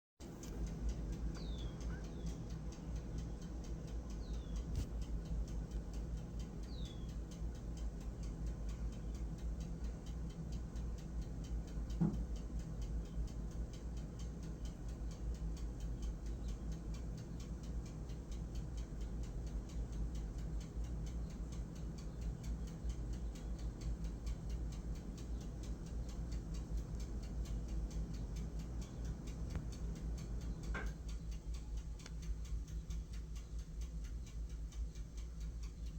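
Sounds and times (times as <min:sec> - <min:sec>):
steady low rumble: 0:00.2 - 0:35.9.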